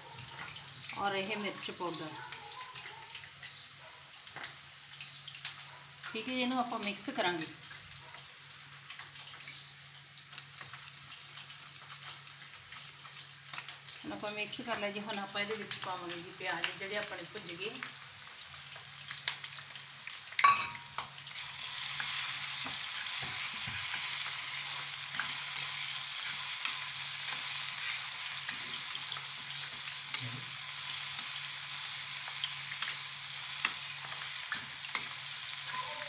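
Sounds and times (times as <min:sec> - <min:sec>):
onions sizzling in hot oil: 0:00.0 - 0:36.0.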